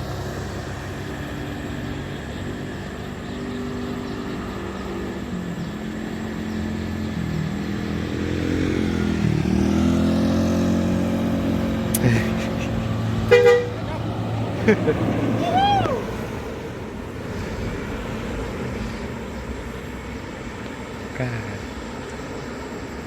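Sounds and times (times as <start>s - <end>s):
heavy vehicle engine approaching: 0.0s - 23.0s.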